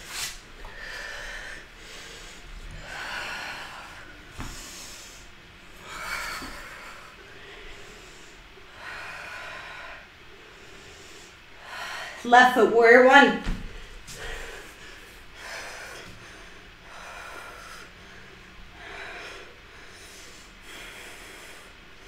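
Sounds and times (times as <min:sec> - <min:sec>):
woman breathing through nose: 0:00.2 - 0:12.2, 0:13.7 - 0:22.0.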